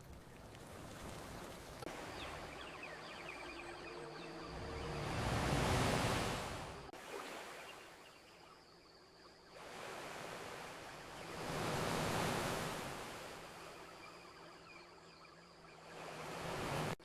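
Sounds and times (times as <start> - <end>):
ocean waves washing onto beach: 0.0 - 8.0, 9.5 - 14.0, 15.8 - 17.0.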